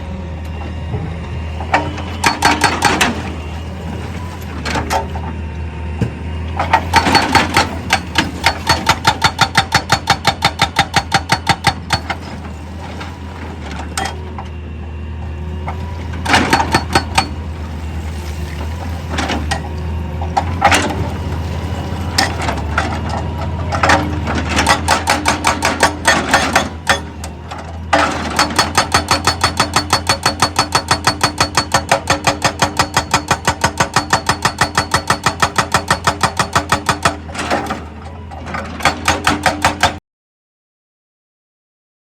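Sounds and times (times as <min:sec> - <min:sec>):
excavator engine humming: 0:00.0 - 0:40.0.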